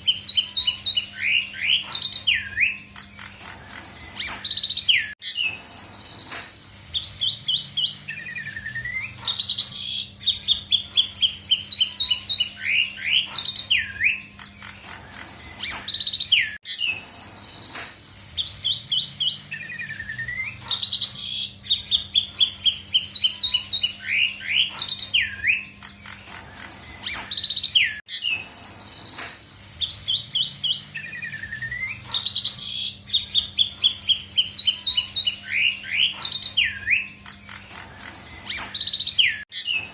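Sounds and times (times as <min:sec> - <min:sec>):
starling singing rapid trills: 0:00.0 - 0:39.9.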